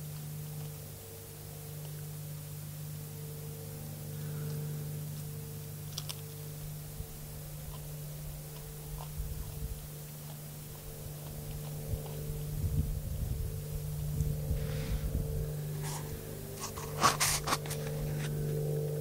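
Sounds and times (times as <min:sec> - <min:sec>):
light aircraft droning overhead: 0:00.0 - 0:19.0.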